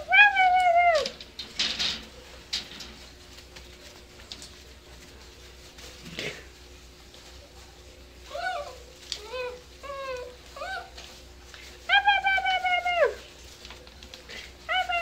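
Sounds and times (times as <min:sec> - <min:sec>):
puppies scuffling on pads: 0:00.1 - 0:15.0.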